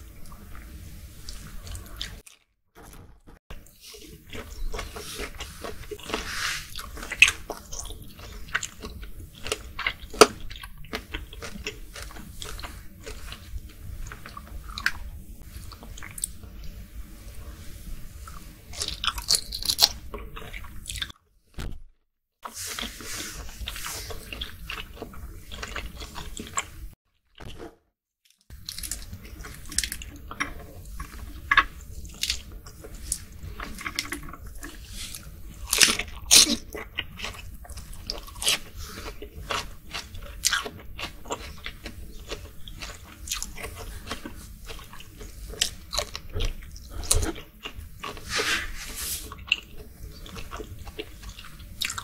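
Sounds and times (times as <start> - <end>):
close chewing with crunchy bites: 0.0 - 21.2, 22.4 - 52.0.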